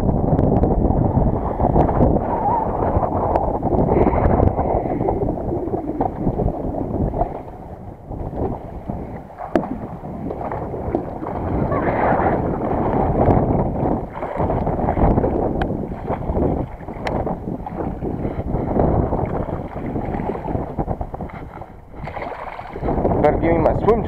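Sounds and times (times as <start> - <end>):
wind buffeting microphone: 0.0 - 24.0
water lapping against boat hull: 0.2 - 24.0.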